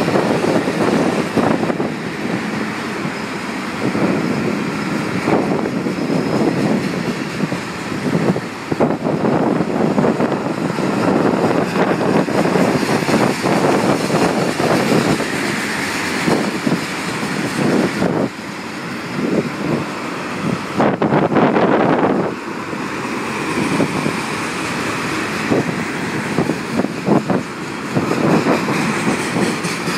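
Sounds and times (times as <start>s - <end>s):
train cars clicking and clattering: 0.0s - 29.9s
train wheels rumbling on rails: 0.0s - 29.9s.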